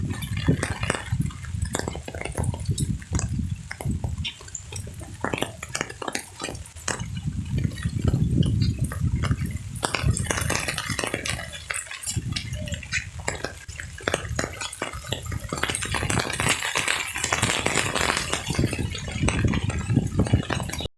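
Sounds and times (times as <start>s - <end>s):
rain falling: 0.0s - 20.9s
raindrops tapping surfaces: 0.0s - 20.9s.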